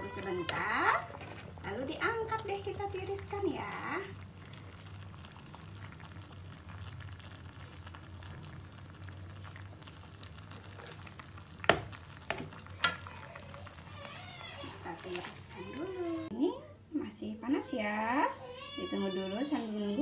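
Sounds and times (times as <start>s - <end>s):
water boiling and bubbling: 0.0s - 16.3s.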